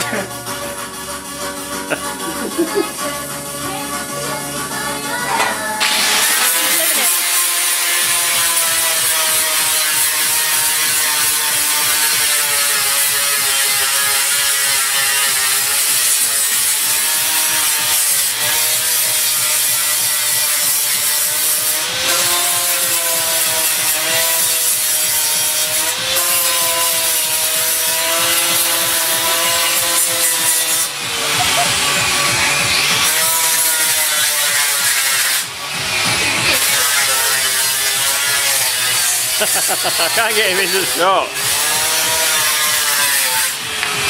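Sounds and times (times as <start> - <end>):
angle grinder on steel: 0.0 - 44.0.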